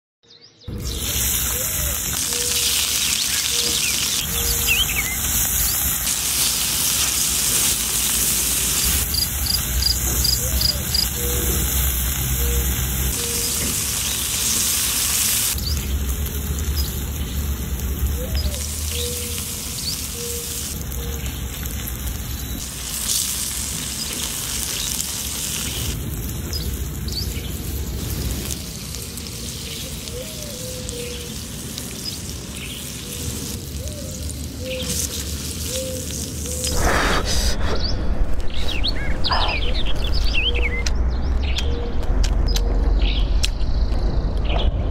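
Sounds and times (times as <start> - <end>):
shrimp sizzling on hot stone: 0.7 - 36.8.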